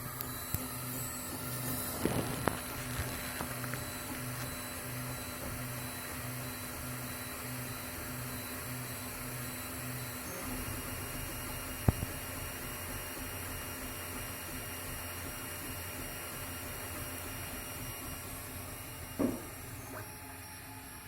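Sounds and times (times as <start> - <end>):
cooling fans humming: 0.0 - 21.0.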